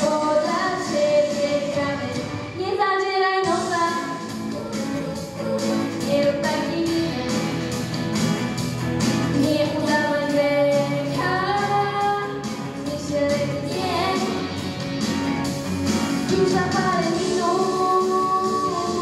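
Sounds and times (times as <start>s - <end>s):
girl singing into a microphone: 0.0s - 7.6s, 9.4s - 14.4s, 16.3s - 19.0s
instrumental pop accompaniment: 0.0s - 19.0s.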